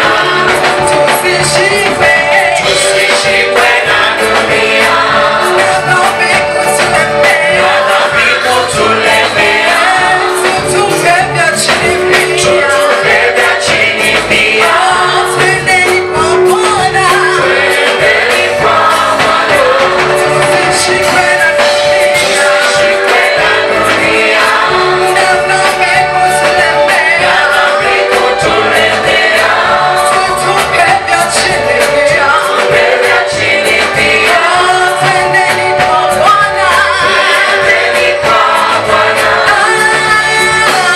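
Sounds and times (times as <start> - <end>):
choir singing gospel song: 0.0 - 40.9
instrumental backing with bass beat: 0.0 - 40.9.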